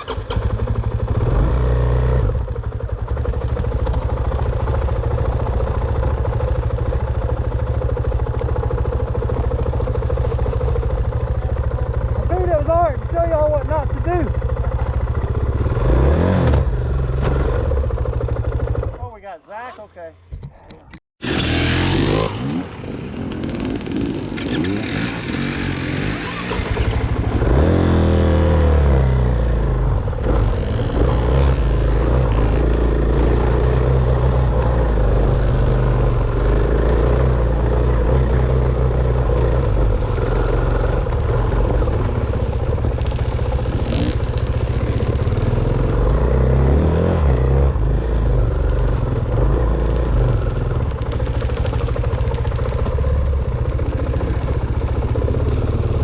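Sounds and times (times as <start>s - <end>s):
dirt bike engine revving: 0.0s - 2.5s, 8.8s - 19.0s, 21.2s - 56.0s.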